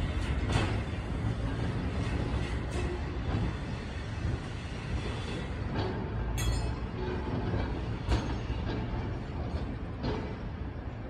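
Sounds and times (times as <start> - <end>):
streetcar rumbling on track: 0.0 - 11.0.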